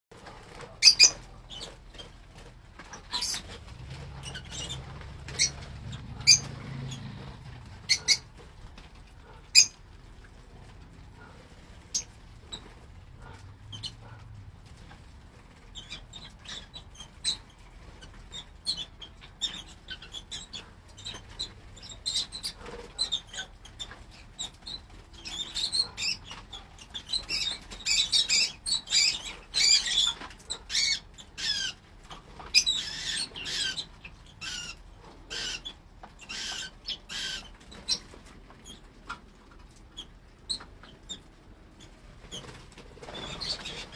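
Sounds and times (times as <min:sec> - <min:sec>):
lovebirds chirping: 0:00.3 - 0:08.7, 0:09.5 - 0:09.9, 0:10.6 - 0:14.9, 0:15.5 - 0:43.9.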